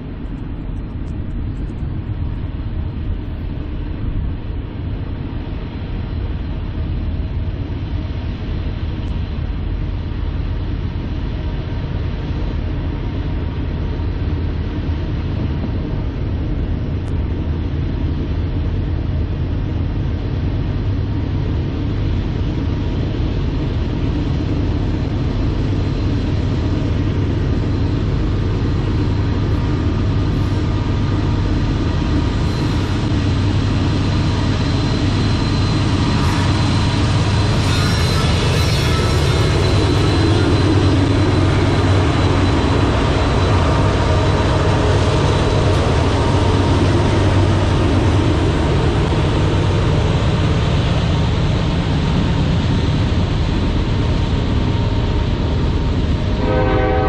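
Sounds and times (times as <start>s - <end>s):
train engine rumble: 0.0s - 57.0s.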